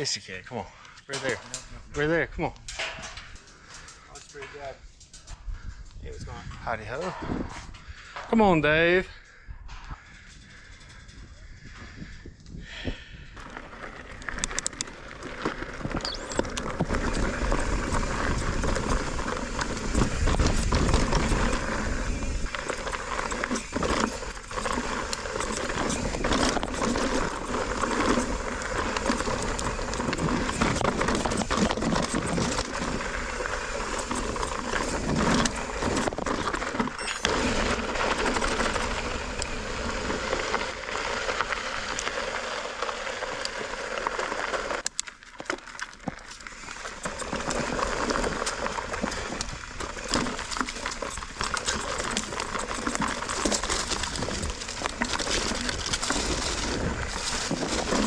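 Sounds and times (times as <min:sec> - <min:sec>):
bike tyres on rocky trail: 0:00.0 - 0:58.0
bike clicks and rattles: 0:00.8 - 0:58.0.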